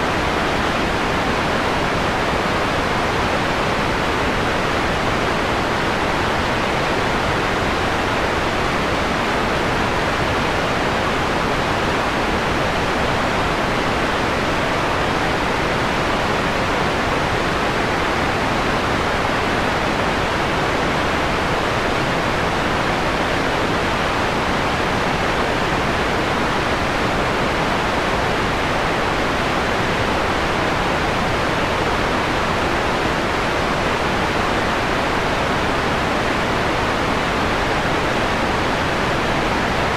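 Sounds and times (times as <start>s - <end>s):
filtered synthetic noise hiss: 0.0s - 39.9s.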